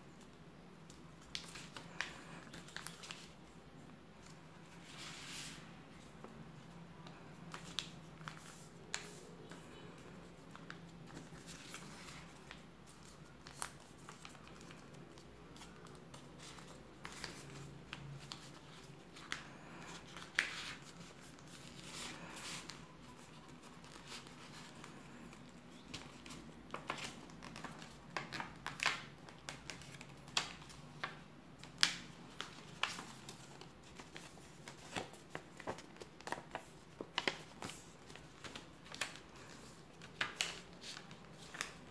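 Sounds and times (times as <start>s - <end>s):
paper folding rustle and crackle: 0.9s - 3.5s, 4.1s - 41.9s.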